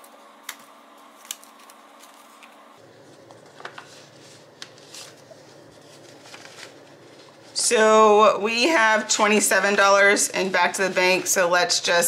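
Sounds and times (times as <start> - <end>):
faint room hum: 0.0 - 12.0
banknotes rustling: 0.5 - 7.9, 8.6 - 12.0.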